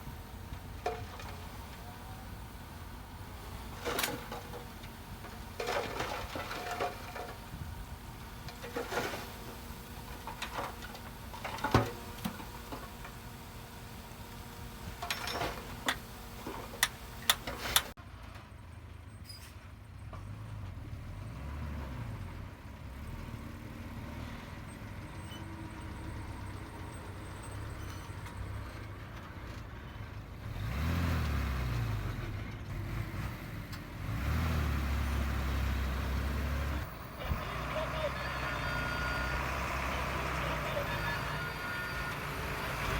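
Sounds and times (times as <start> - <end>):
diesel engine revving: 0.0 - 18.0, 20.2 - 42.9.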